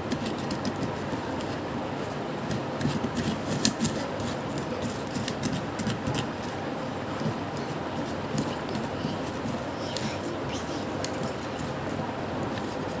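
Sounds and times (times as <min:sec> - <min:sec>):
hands kneading dough squishing: 0:00.0 - 0:13.0
steady background hiss: 0:00.0 - 0:13.0.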